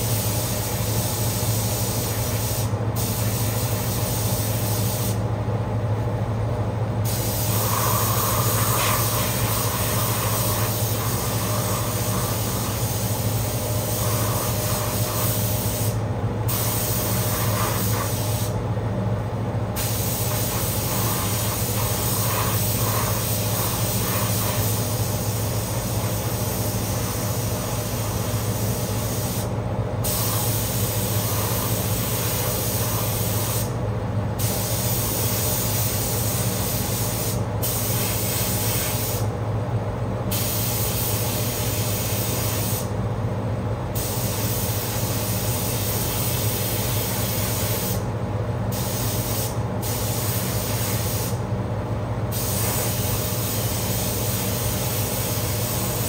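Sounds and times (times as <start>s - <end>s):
air spray gun hissing: 0.0s - 5.2s, 7.0s - 18.6s, 19.8s - 33.8s, 34.4s - 39.3s, 40.3s - 42.9s, 44.0s - 48.1s, 48.7s - 51.4s, 52.3s - 56.0s
ventilation fan drone: 0.0s - 56.0s.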